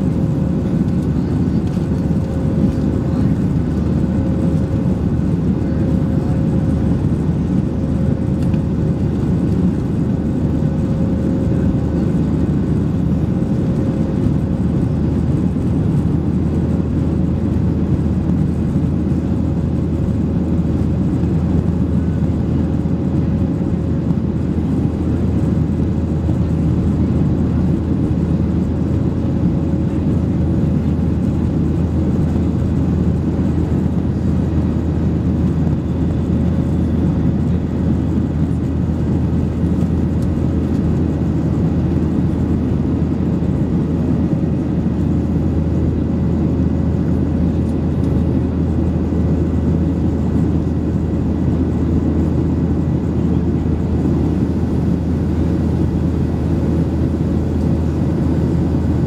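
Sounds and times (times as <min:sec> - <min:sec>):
faint steady hum: 0:00.0 - 0:59.0
jet engine cabin noise: 0:00.0 - 0:59.0.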